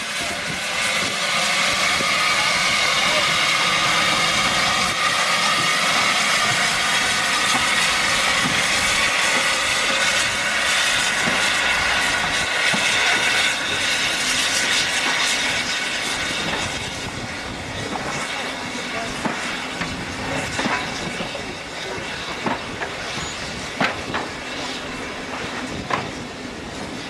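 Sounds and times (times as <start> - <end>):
steam locomotive hissing: 0.0 - 27.0.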